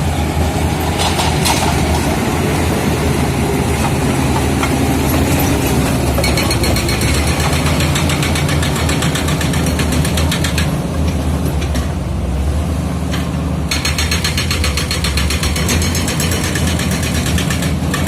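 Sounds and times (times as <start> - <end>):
bulldozer diesel engine running: 0.0 - 18.0
metallic clatter of steel tracks: 0.6 - 12.1, 13.1 - 18.0.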